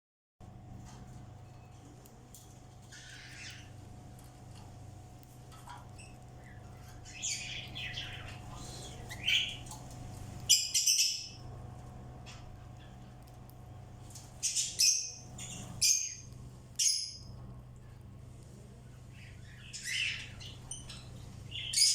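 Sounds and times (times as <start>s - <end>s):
steady low hum: 0.4s - 21.9s
birds chirping: 0.8s - 18.2s, 18.8s - 21.9s.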